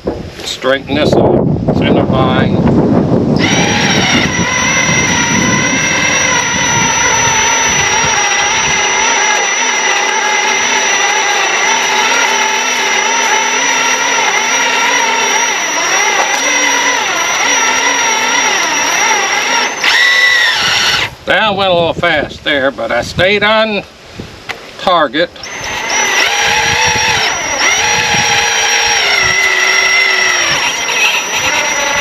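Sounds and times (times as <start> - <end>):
steady high whine: 0.0 - 23.0, 24.9 - 32.0.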